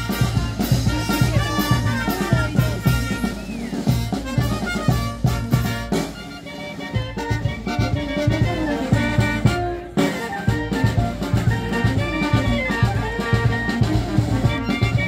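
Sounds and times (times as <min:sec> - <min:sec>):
brass band dance music: 0:00.0 - 0:15.0
steady drum beat: 0:00.0 - 0:15.0.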